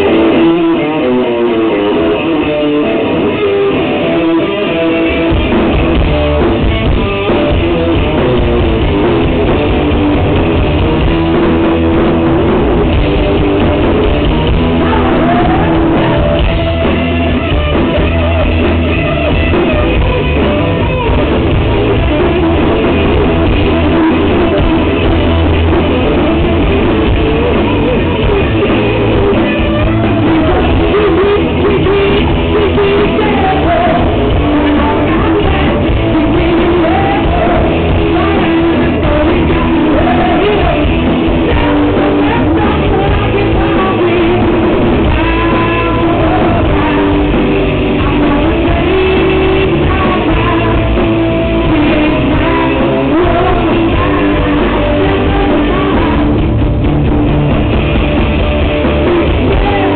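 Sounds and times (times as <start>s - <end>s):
person singing: 0.0s - 56.5s, 58.8s - 59.9s
bass guitar: 0.0s - 59.9s
drum kit: 0.0s - 59.9s
electric guitar: 0.0s - 59.9s.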